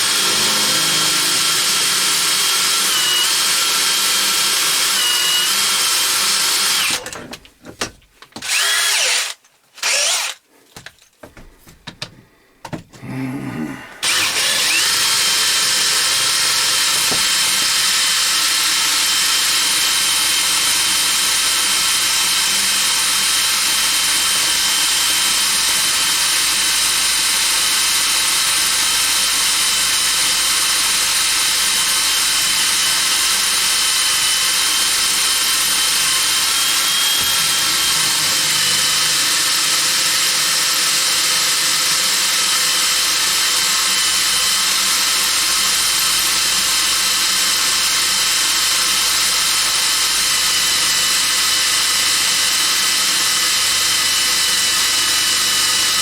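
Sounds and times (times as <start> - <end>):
electric drill whining: 0.0 - 7.4, 8.4 - 10.4, 14.0 - 56.0.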